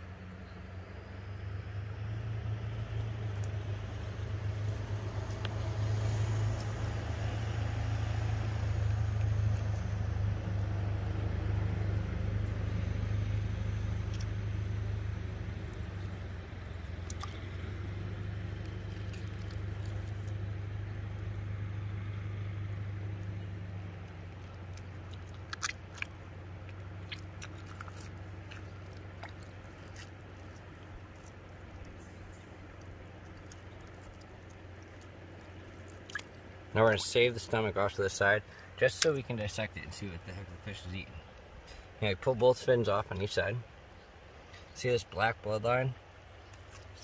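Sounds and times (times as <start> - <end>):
distant engine droning: 0.0 - 47.0.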